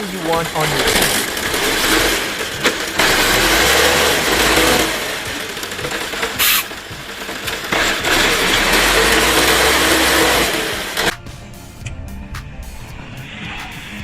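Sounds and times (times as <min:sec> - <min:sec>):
heavy vehicle engine under load: 0:00.0 - 0:11.2.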